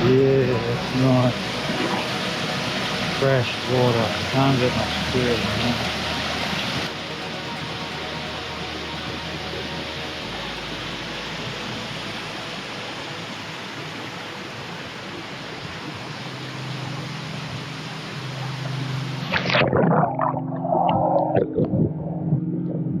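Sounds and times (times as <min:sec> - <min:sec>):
waterfall rushing: 0:00.0 - 0:22.5
underwater gurgling and rumbling: 0:00.0 - 0:23.0.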